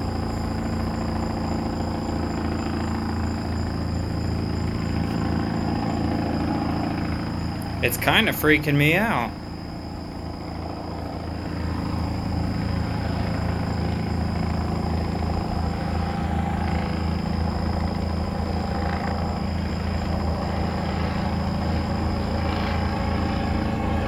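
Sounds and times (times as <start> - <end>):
helicopter droning: 0.0 - 24.0.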